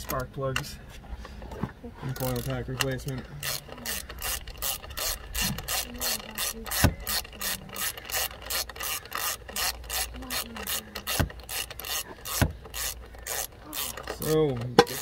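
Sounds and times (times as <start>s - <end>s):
hand ratchet clicking: 2.2s - 15.0s.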